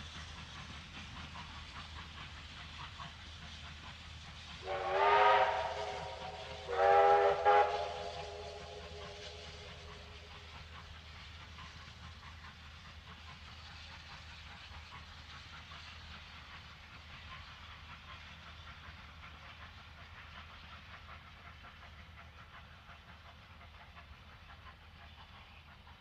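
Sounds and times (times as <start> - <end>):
distant steam locomotive chuffing: 0.0 - 26.0.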